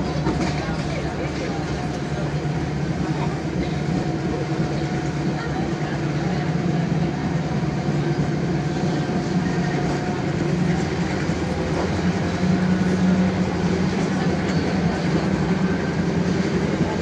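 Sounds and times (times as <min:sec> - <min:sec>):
train engine and wheels rumbling: 0:00.0 - 0:17.0.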